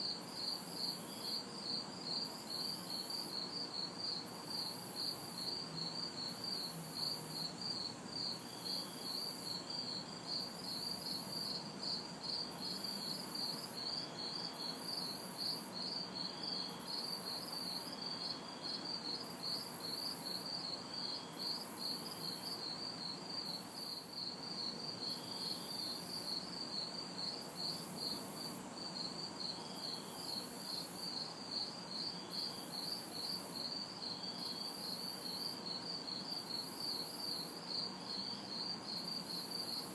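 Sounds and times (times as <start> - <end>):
crickets chirping: 0.0 - 39.9
high insect buzz: 0.0 - 39.9.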